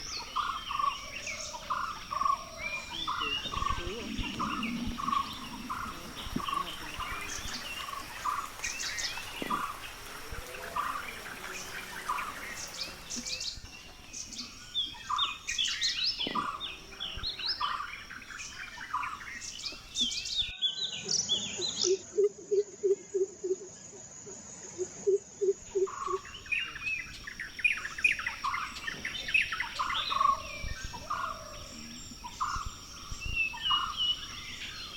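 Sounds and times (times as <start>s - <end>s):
birds chirping and calling: 0.0s - 34.9s.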